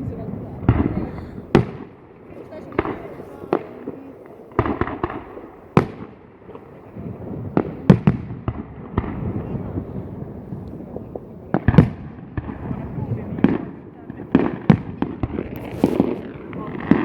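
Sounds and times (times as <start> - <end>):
firework shells bursting bangs: 0.0 - 17.0.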